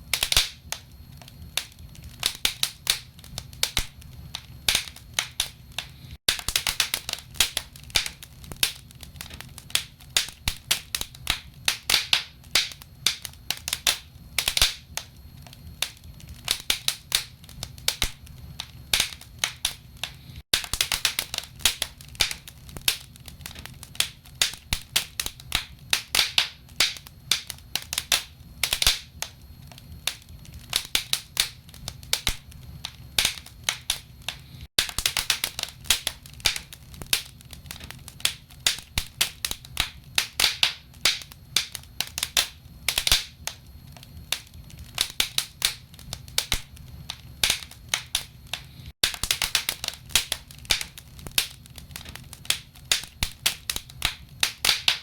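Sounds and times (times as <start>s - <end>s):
firewood crackling and popping: 0.0s - 55.0s
low fire rumble: 0.0s - 55.0s.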